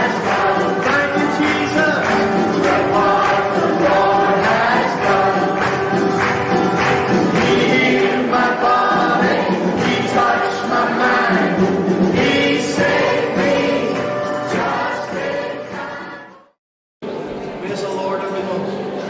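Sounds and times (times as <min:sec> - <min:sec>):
choir singing a hymn: 0:00.0 - 0:16.5.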